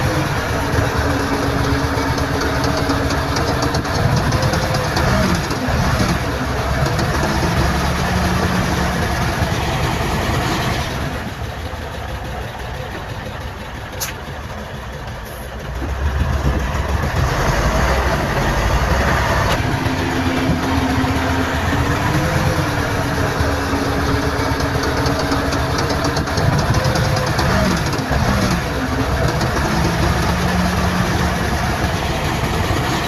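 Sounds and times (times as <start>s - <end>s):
heavy diesel machinery running: 0.0s - 33.0s.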